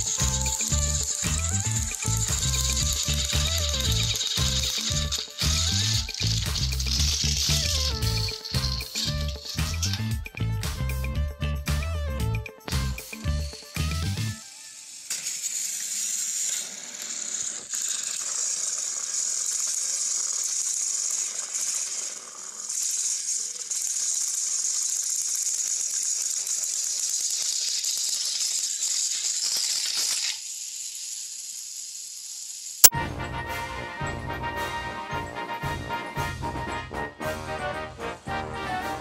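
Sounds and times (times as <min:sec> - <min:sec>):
toy train motors whirring: 0:00.0 - 0:33.0.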